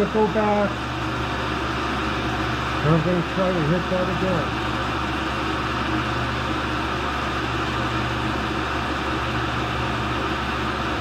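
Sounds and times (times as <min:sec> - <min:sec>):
grinder motors humming: 0:00.0 - 0:11.0.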